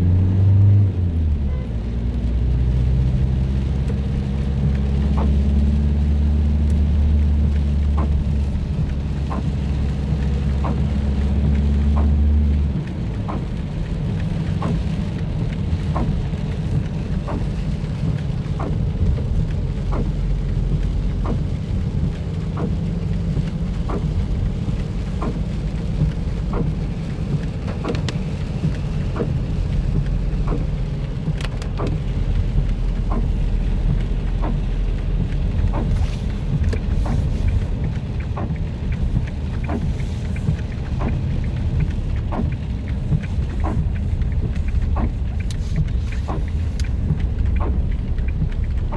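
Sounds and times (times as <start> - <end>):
rain on car: 0.0 - 48.9
tyres and engine rumble: 0.0 - 48.9
soft ticks: 2.2 - 48.9.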